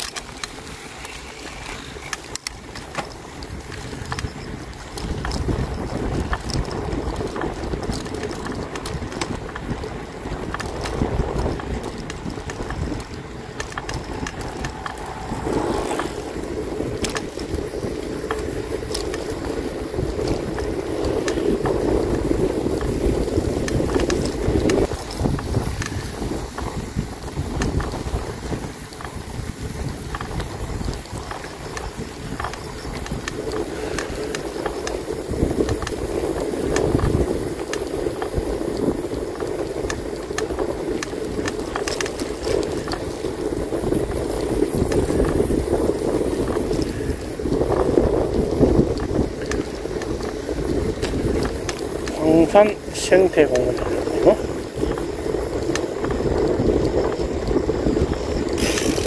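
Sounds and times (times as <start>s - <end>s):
bicycle tyres rumbling on path: 0.0s - 59.0s
small clicks and rattles: 0.0s - 59.0s
wind buffeting microphone: 0.0s - 59.0s.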